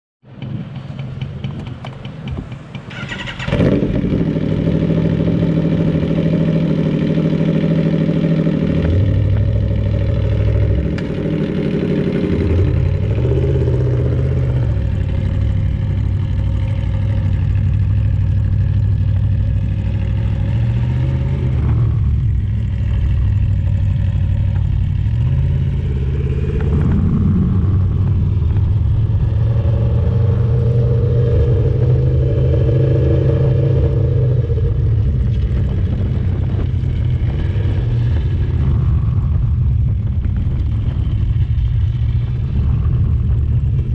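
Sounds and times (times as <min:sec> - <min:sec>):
motorcycle engine idling and revving: 0:00.2 - 0:43.9.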